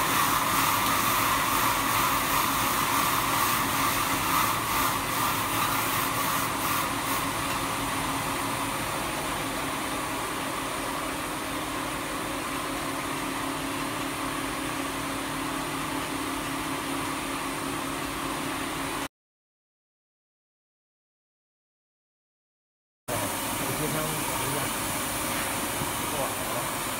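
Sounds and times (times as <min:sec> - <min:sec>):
machine whirring hum: 0:00.0 - 0:19.1, 0:23.1 - 0:26.9.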